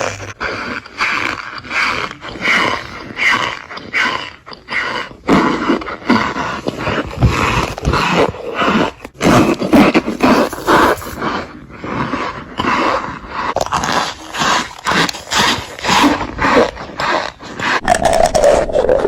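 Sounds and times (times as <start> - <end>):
crunching and chewing: 0.0 - 19.0.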